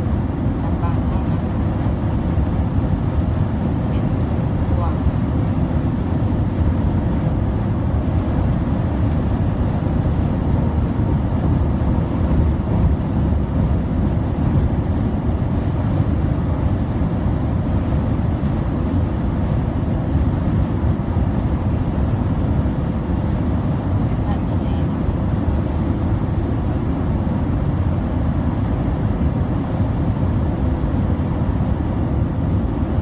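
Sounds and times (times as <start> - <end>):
highway traffic rumble: 0.0 - 33.0.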